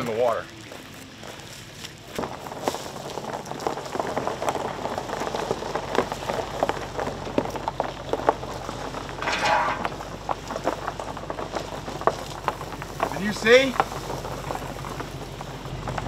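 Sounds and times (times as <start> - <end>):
tyres rolling over gravel: 0.0 - 16.0.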